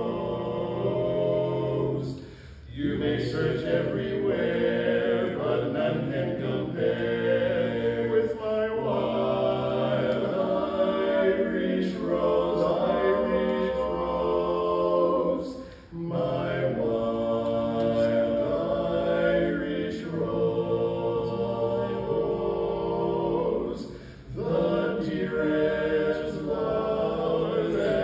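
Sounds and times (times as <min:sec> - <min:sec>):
male quartet singing a cappella: 0:00.0 - 0:28.0.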